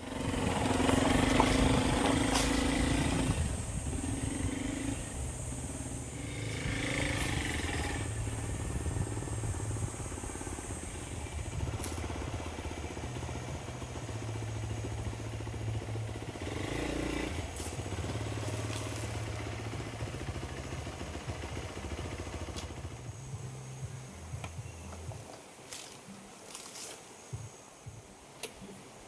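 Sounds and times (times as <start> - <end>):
motorcycle engine running: 0.0 - 26.7.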